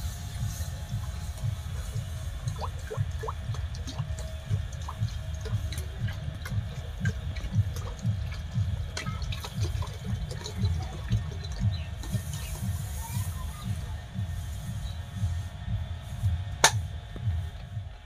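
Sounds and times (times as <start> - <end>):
pulsing low rumble: 0.0 - 18.0.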